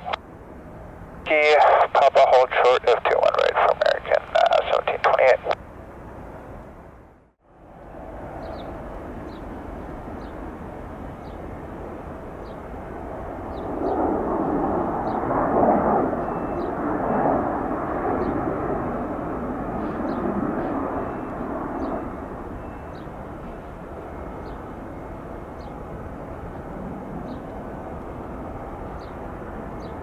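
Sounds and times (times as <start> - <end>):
jet engines at takeoff: 0.0 - 30.0.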